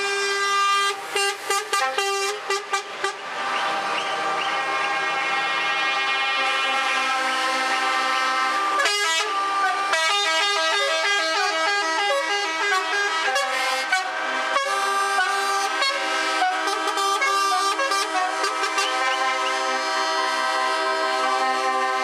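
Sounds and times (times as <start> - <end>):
truck air horns playing notes: 0.0 - 22.0.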